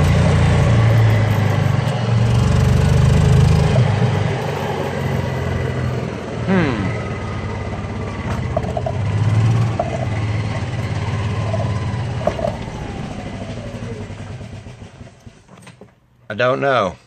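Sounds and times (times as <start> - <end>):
engine running under load: 0.0 - 15.9.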